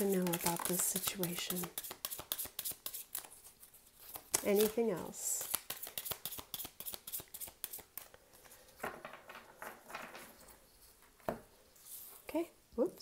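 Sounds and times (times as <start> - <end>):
cards being shuffled: 0.0 - 12.3.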